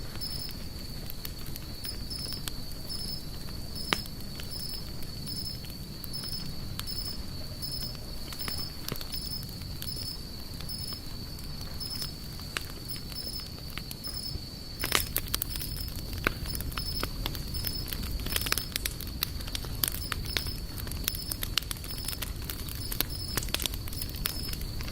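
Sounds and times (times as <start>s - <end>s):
insect trill with chirps: 0.0s - 24.9s
wood fire crackling: 0.0s - 24.9s.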